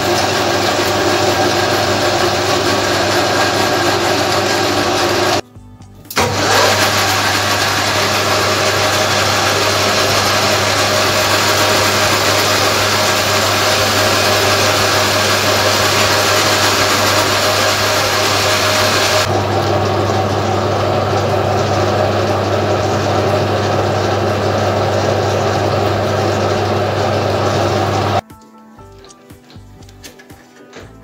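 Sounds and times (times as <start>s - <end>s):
metal lathe motor hum: 0.0s - 5.4s, 6.2s - 28.2s.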